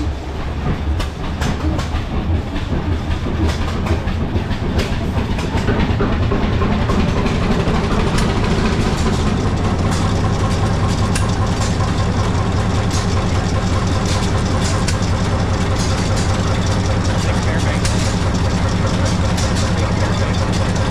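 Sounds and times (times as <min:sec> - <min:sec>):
engine running loudly: 0:00.0 - 0:20.9.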